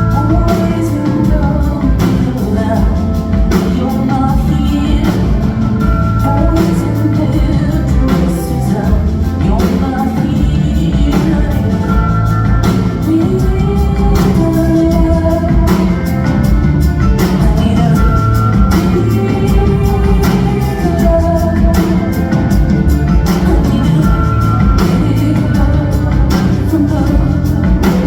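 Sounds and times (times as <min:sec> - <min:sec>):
live rock band: 0:00.0 - 0:28.0
woman singing: 0:00.0 - 0:28.0.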